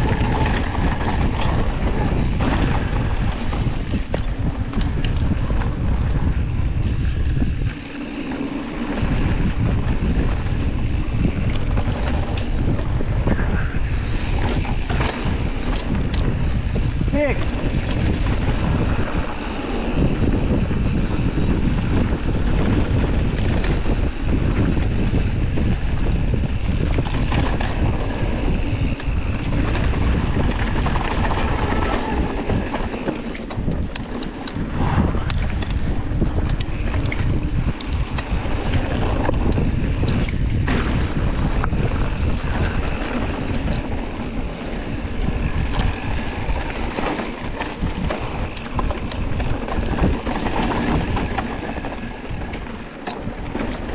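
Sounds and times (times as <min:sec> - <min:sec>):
bike rattling and clicking: 0:00.0 - 0:53.9
bike tyres on dirt: 0:00.0 - 0:53.9
wind rushing over microphone: 0:00.0 - 0:53.9.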